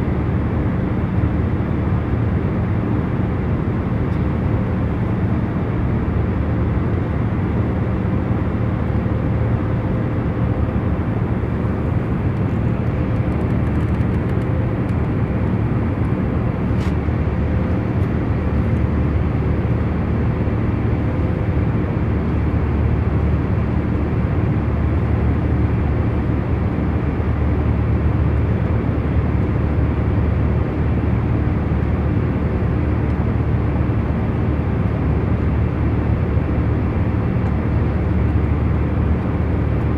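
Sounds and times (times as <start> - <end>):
airliner engine rumble: 0.0 - 39.9.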